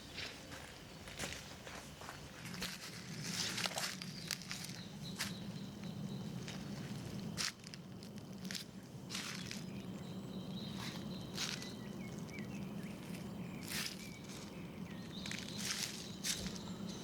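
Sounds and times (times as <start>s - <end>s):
faint birdsong: 0.0s - 17.0s
footsteps crunching on trail: 0.0s - 17.0s
steady low hum: 0.0s - 17.0s.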